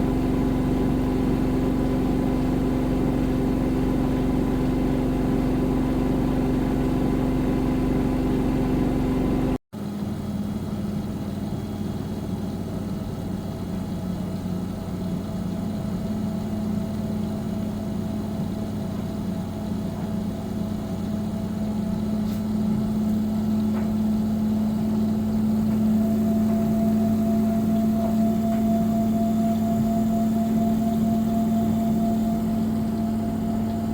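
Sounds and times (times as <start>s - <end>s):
washing machine running: 0.0s - 33.9s.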